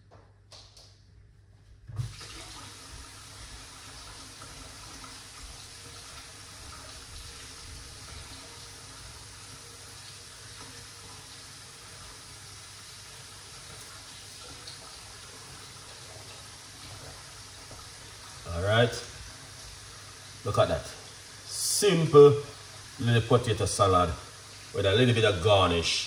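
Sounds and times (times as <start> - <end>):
water running into sink: 2.0 - 26.0.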